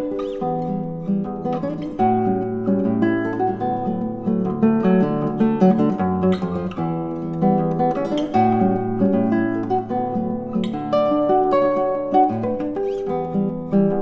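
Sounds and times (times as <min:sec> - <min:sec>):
solo classical guitar: 0:00.0 - 0:14.0.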